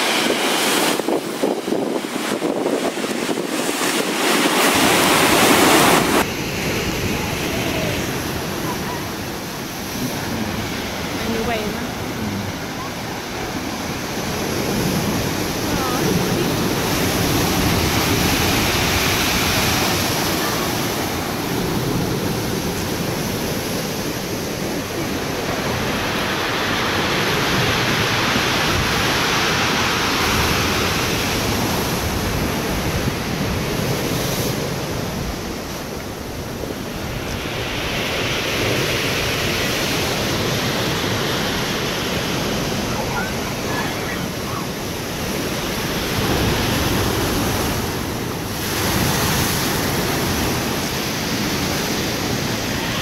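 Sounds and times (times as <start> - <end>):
waves breaking against harbour wall: 0.0 - 53.0.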